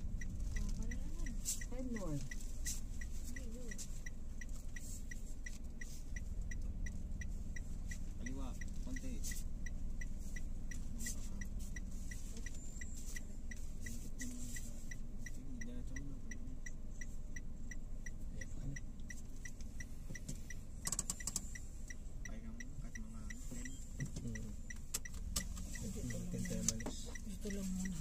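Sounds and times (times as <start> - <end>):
car engine idling: 0.0 - 28.0
turn signal ticking: 0.0 - 28.0.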